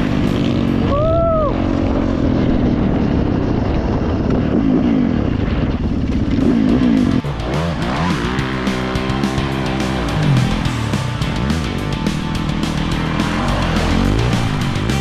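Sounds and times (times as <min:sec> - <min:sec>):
dirt bike engine running hard: 0:00.0 - 0:15.0
rise-and-fall tone: 0:00.0 - 0:15.0.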